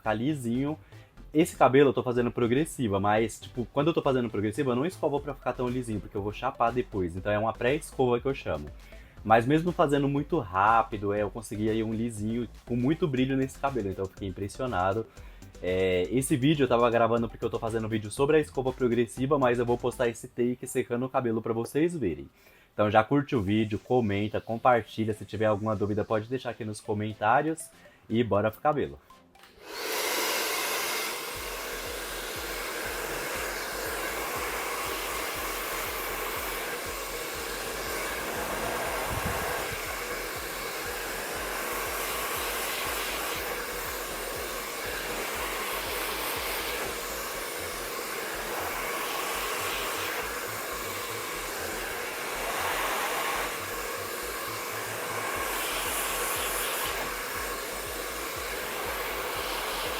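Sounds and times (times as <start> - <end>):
hair dryer blowing air: 0.0 - 20.2, 29.4 - 59.9.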